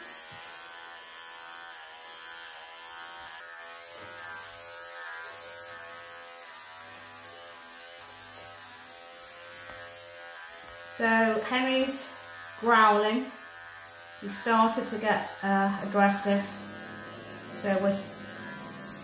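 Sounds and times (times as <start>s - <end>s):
electric pet clippers buzzing: 0.0s - 19.0s.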